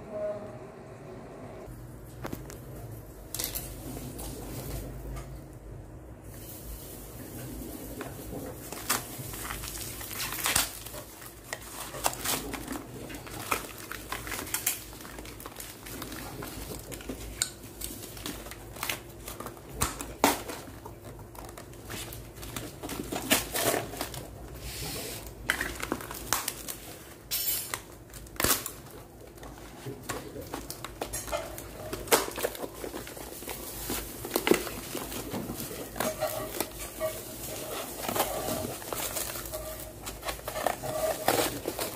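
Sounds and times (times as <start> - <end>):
cardboard rustling and tearing: 7.1 - 27.2, 28.1 - 41.9.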